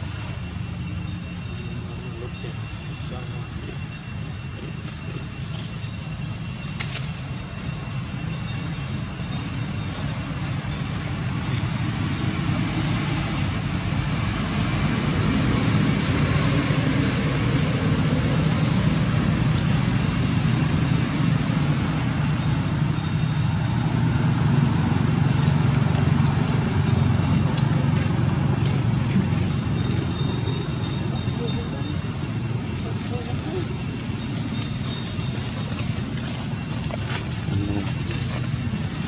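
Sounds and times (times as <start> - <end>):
low rumbling noise: 0.0 - 39.0.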